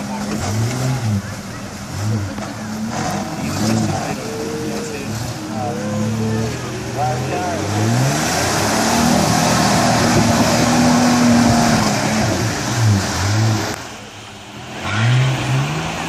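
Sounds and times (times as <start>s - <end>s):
engine revving hard: 0.0s - 13.9s, 14.6s - 16.0s.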